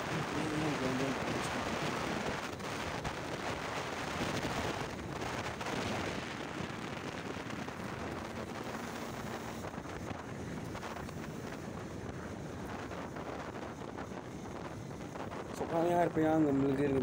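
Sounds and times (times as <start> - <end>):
vehicle running noise: 0.0 - 17.0
wind buffeting microphone: 0.0 - 17.0.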